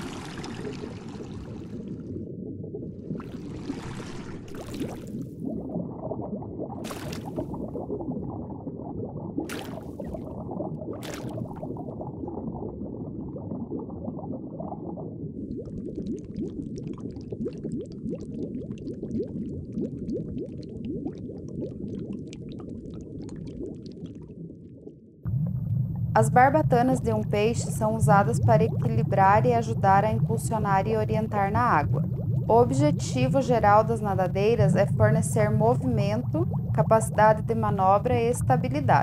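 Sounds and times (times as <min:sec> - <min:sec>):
water bubbling and gurgling: 0:00.0 - 0:39.0.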